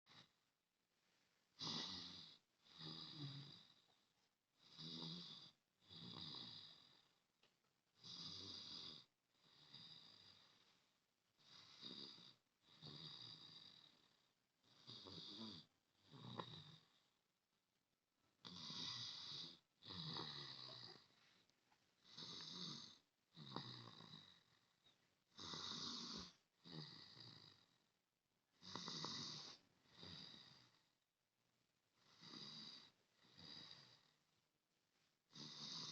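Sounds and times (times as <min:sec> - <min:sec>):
person snoring softly: 0:01.6 - 0:07.2, 0:08.0 - 0:17.2, 0:18.4 - 0:31.0, 0:31.9 - 0:34.4, 0:35.3 - 0:35.9.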